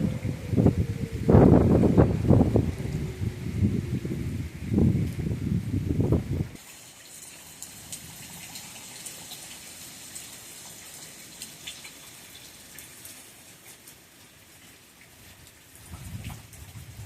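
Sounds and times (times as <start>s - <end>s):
raindrops ticking close by: 0.0s - 17.0s
steady rain hissing: 0.0s - 17.0s.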